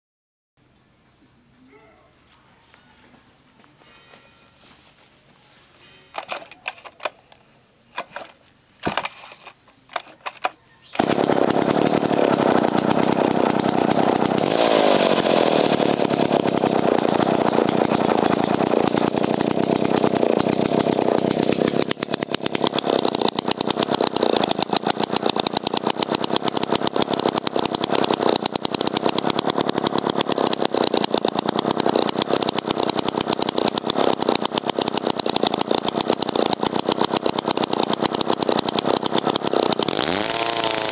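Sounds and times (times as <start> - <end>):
chainsaw starting and running: 6.2 - 7.2, 8.0 - 40.9.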